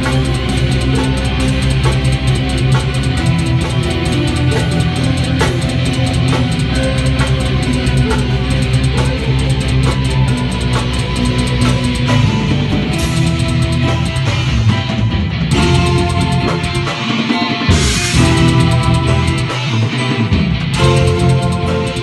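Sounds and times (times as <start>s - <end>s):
metal band playing: 0.0s - 22.0s
rapid cymbal strokes: 0.0s - 22.0s.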